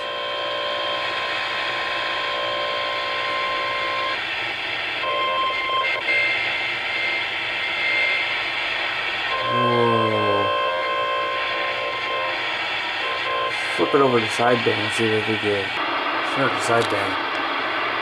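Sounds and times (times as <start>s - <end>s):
electronic tones from radio: 0.0s - 4.2s, 4.8s - 18.0s.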